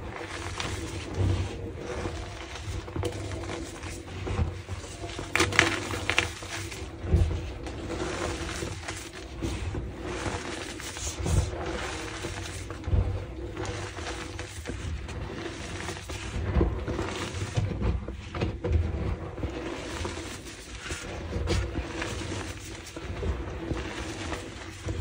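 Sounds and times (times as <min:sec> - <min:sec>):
chalk crushing and crunching: 0:00.0 - 0:17.8, 0:19.5 - 0:25.0.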